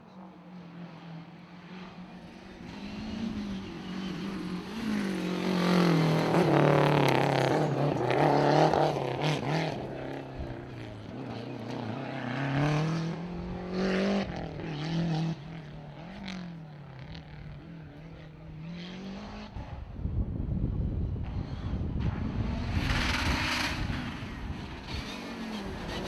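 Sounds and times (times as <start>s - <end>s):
rally car engine revving: 0.6s - 19.9s, 21.1s - 26.0s.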